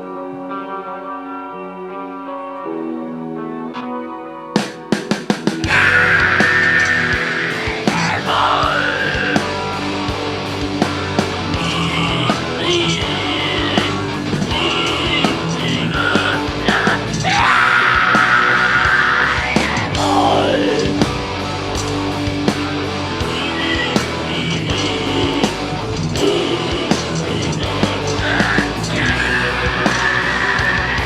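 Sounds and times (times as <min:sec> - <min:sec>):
distorted electric guitars: 0:00.0 - 0:31.0
fast drumming: 0:05.0 - 0:31.0.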